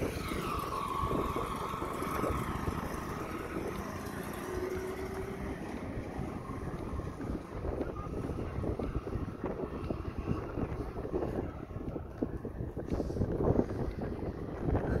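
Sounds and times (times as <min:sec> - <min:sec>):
auto-rickshaw engine passing: 0:00.0 - 0:15.0
wind rumble on microphone: 0:00.0 - 0:15.0.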